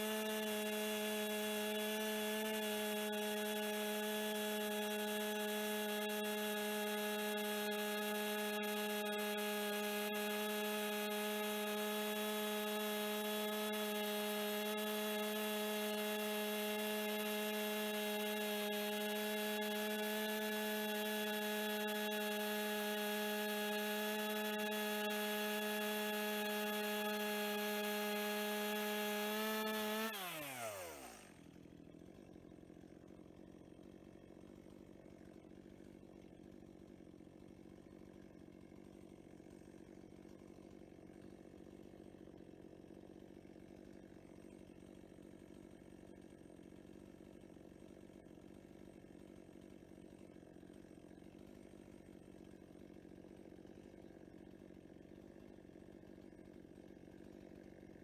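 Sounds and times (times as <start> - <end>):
chainsaw running: 0.0 - 58.0.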